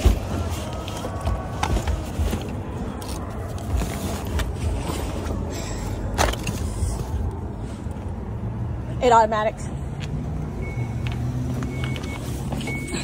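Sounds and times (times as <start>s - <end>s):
outdoor noise: 0.0s - 13.0s
vehicle low rumble: 0.0s - 13.0s.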